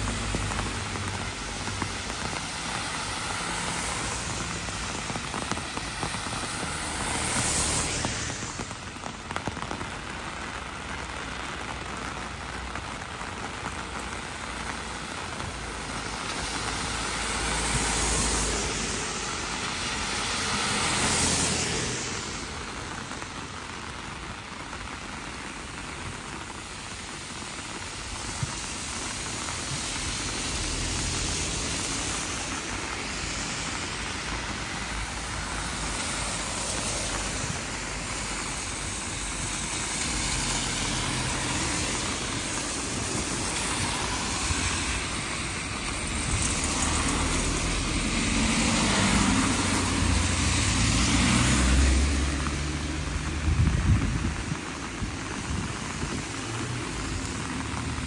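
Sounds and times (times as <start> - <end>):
heavy rain pouring on street: 0.0 - 58.0.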